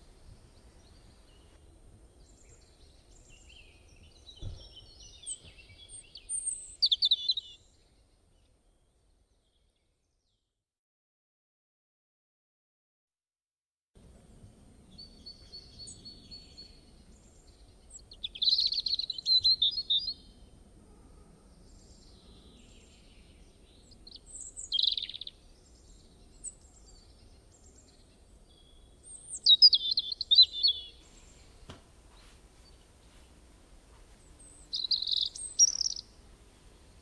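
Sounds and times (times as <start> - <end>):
songbirds chirping and trilling: 0.0 - 10.2, 14.1 - 37.0.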